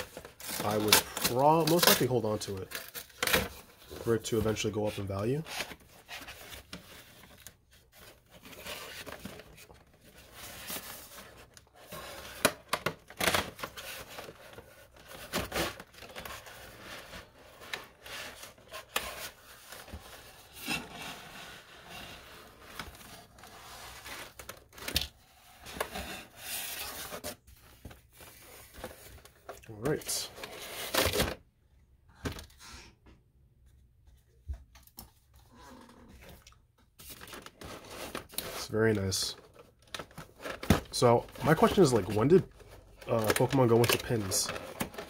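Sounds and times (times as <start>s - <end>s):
cardboard sleeve rustling and scraping: 0.0s - 31.2s, 37.0s - 45.0s.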